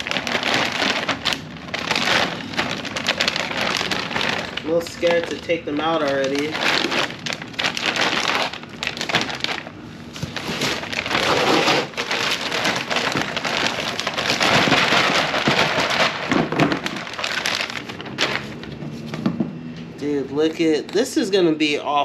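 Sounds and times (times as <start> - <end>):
plastic packaging crinkling: 0.0 - 19.3.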